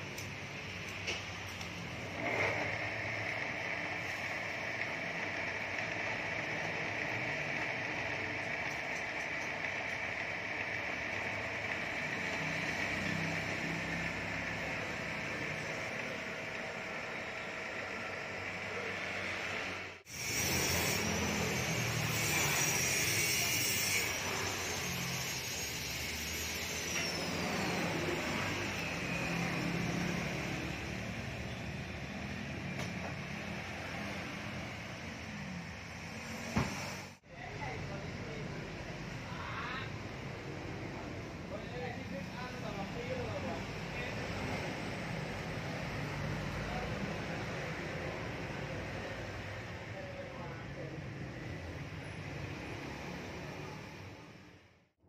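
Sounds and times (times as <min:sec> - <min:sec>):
lathe running with even whir: 0:00.0 - 0:37.2, 0:39.9 - 0:54.4.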